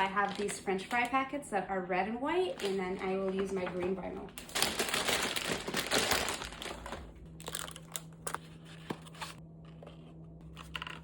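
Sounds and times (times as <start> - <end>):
paper packets rustling: 0.0 - 1.2, 2.4 - 11.0.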